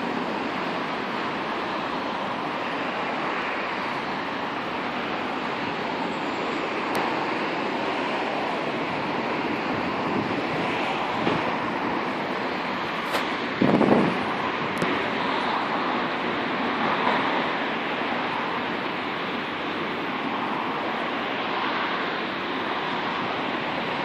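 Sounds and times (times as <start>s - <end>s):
rushing wind: 0.0s - 24.0s.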